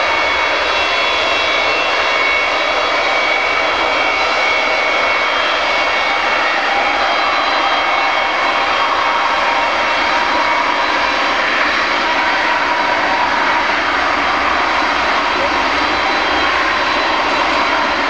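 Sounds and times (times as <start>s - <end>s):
jet engines rushing and whining: 0.0s - 18.0s.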